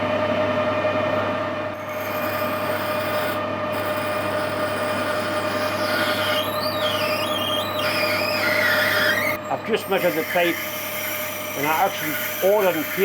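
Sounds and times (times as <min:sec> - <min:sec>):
high squeal of cutting tool: 0:01.8 - 0:13.0
metal lathe humming: 0:01.8 - 0:13.0.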